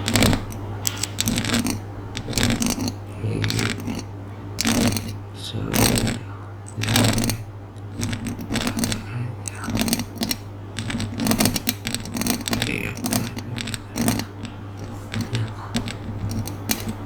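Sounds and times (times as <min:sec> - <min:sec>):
crackly scratching and clicking: 0:00.0 - 0:17.0
low electrical hum: 0:00.0 - 0:17.0.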